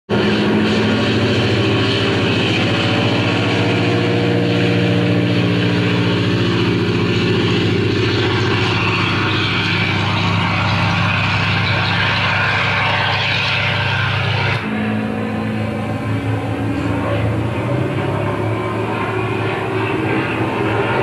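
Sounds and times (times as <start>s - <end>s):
piston aircraft engine running: 0.1s - 21.0s.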